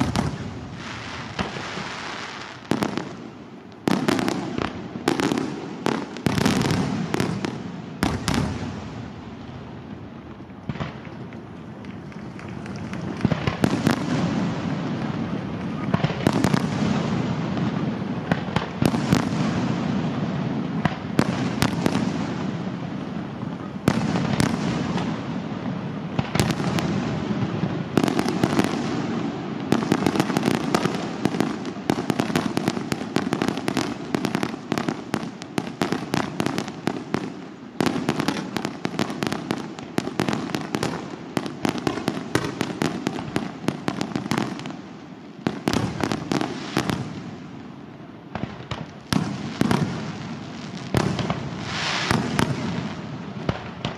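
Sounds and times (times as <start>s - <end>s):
fireworks bangs and crackle: 0.0s - 53.9s
fireworks rumble: 0.0s - 53.9s.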